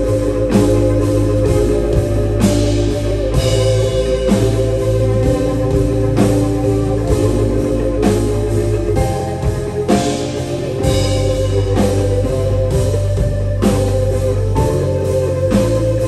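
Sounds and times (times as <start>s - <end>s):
live rock band music: 0.0s - 16.0s.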